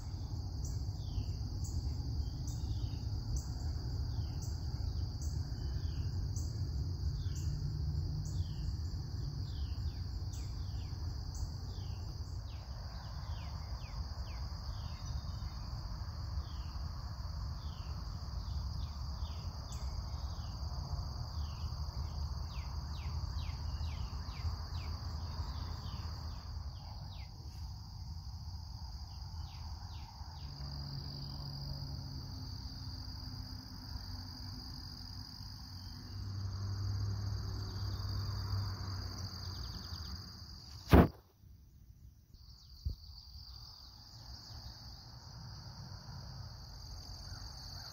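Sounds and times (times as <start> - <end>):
insects trilling: 0.0 - 41.2, 42.3 - 47.9.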